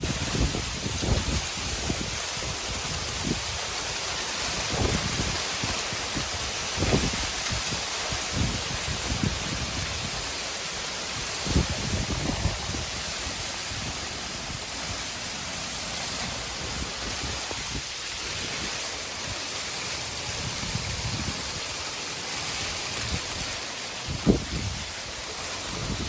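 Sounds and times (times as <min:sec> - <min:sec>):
wind buffeting microphone: 0:00.0 - 0:10.4, 0:11.1 - 0:15.2, 0:16.2 - 0:19.4, 0:20.0 - 0:21.8, 0:22.7 - 0:26.0
heavy rain: 0:00.0 - 0:26.0.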